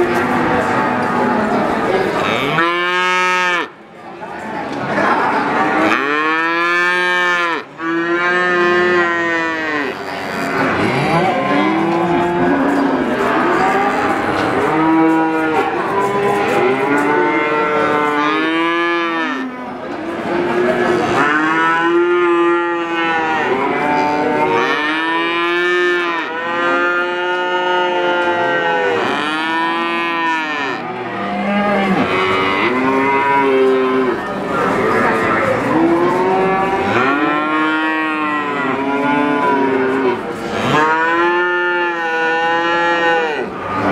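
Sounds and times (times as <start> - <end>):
calves mooing: 2.2 - 3.7, 5.7 - 19.5, 21.0 - 43.9.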